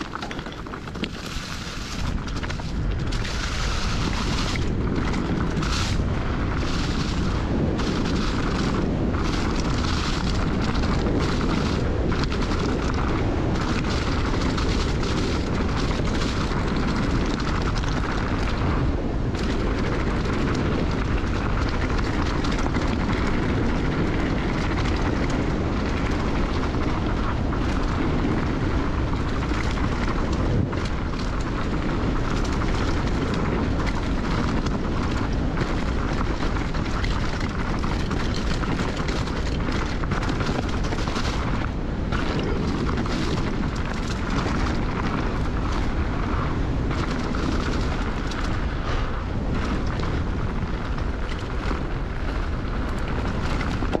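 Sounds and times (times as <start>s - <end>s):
bike knocks and clatters: 0.0s - 54.0s
bike tyres rolling on dirt: 0.0s - 54.0s
wind buffeting microphone: 0.0s - 54.0s.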